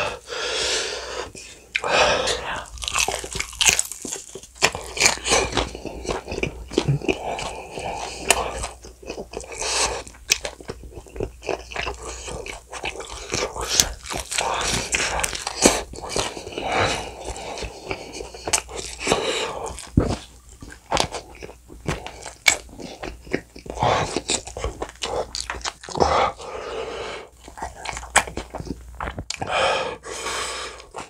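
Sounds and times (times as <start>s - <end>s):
biting and chewing fried chicken: 1.7s - 26.6s, 27.3s - 29.6s.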